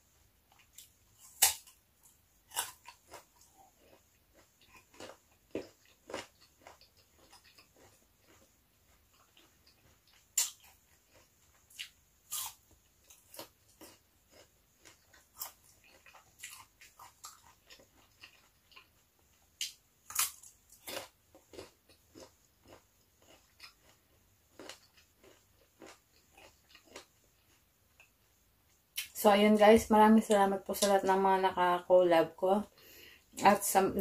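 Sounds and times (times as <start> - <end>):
person chewing food: 0.5 - 29.1.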